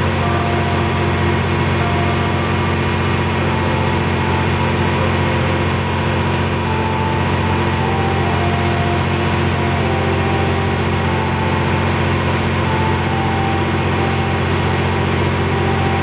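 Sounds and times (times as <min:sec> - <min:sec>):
short higher tones: 0:00.0 - 0:16.0
train engine idling hum: 0:00.0 - 0:16.0.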